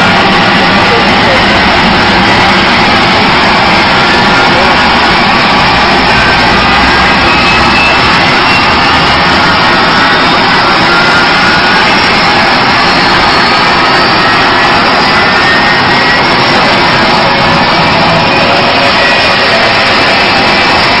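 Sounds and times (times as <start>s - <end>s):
faint high whine: 0.0s - 21.0s
jet engines roaring: 0.0s - 21.0s.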